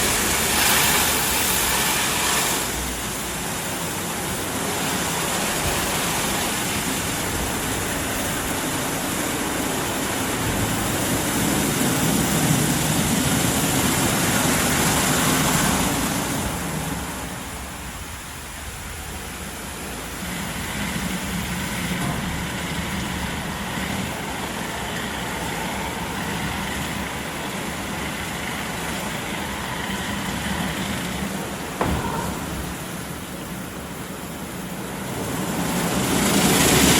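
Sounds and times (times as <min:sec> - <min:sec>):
car wash machine spraying: 0:00.0 - 0:36.9.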